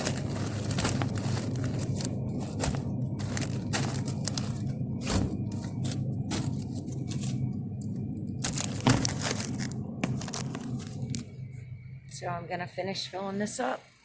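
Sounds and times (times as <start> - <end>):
rustling and crinkling: 0.0 - 11.4
steady low hum: 0.0 - 14.0.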